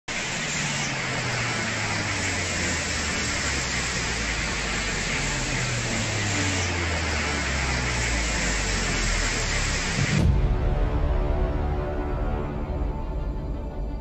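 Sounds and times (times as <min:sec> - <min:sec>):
faint low drone: 0:00.2 - 0:14.0.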